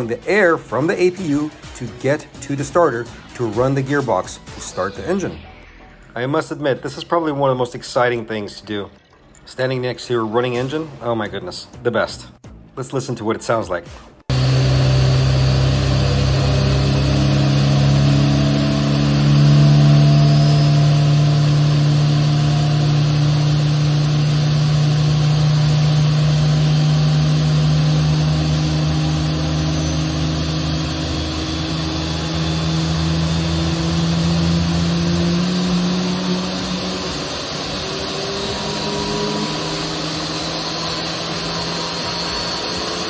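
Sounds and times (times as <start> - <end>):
jet engine spooling up: 0.8 - 7.3, 14.3 - 43.0.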